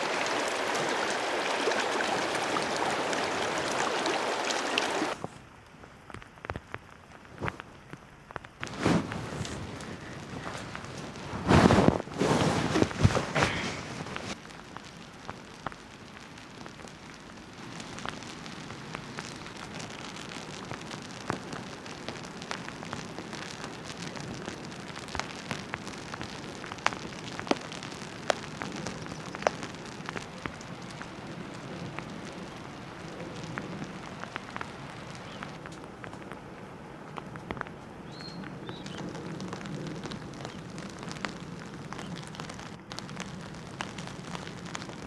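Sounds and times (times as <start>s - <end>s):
sharp raindrop ticks: 0.0s - 5.2s, 8.3s - 45.0s
steady rain falling: 0.0s - 45.0s.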